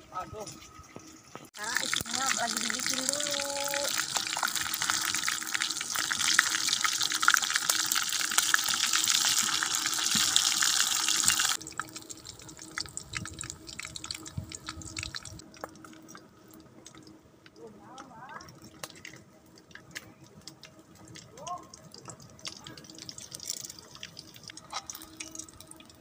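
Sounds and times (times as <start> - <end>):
chicken deep-frying in oil: 1.5 - 26.0.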